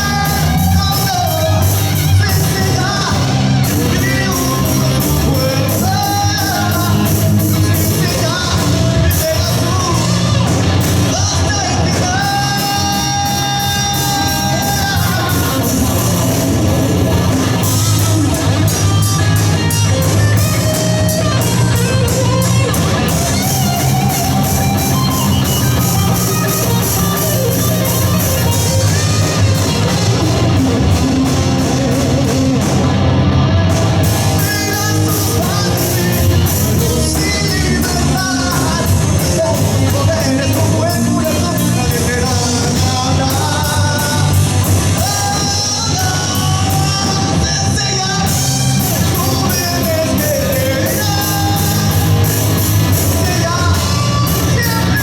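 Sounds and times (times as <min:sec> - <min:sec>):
bass guitar: 0:00.0 - 0:55.0
drum kit: 0:00.0 - 0:55.0
electric guitar: 0:00.0 - 0:55.0
lead singer singing: 0:00.0 - 0:55.0.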